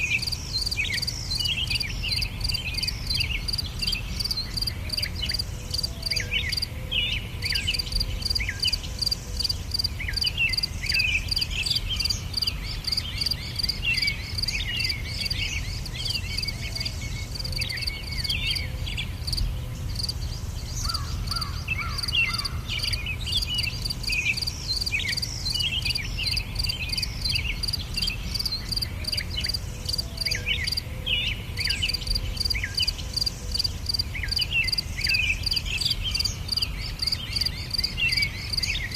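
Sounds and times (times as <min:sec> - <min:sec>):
insect chirping in rapid pulse: 0:00.0 - 0:06.7, 0:07.5 - 0:30.8, 0:31.6 - 0:38.9
birds chirping: 0:00.0 - 0:38.9.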